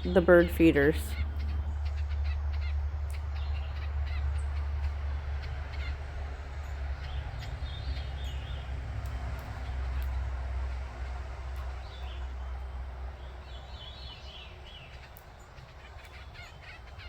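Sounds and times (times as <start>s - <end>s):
low outdoor rumble: 0.0s - 17.0s
harsh caw-like bird calls: 1.1s - 8.9s, 9.5s - 17.0s.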